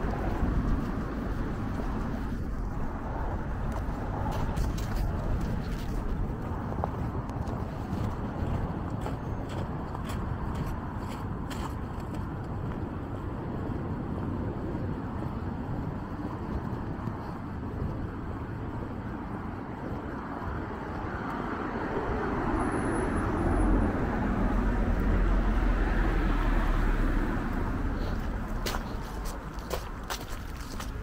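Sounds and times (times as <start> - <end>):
road traffic noise: 0.0 - 31.0
vehicle passing with low rumble: 0.0 - 31.0.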